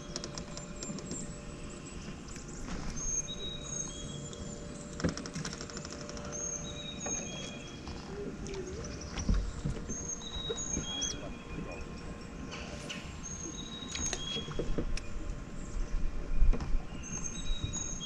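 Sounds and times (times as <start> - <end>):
birds singing whistled notes: 0.0 - 18.0.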